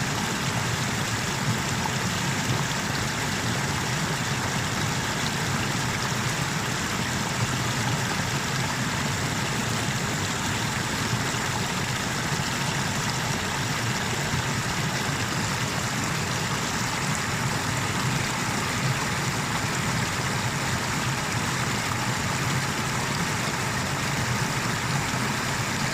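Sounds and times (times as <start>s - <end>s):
water rushing over waterfall: 0.0s - 25.9s.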